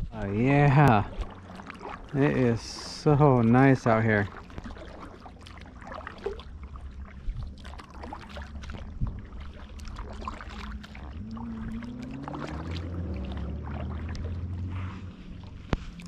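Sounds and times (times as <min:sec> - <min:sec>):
low droning hum: 0:00.0 - 0:16.0
paddle splashing in water: 0:00.0 - 0:16.0.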